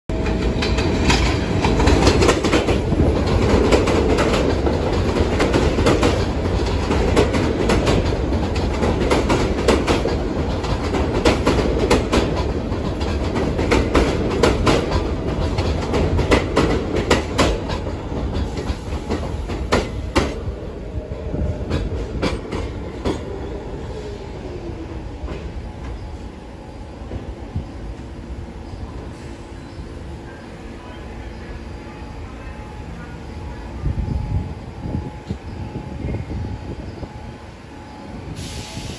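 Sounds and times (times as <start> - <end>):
subway train wheels clacking: 0.1 - 38.9.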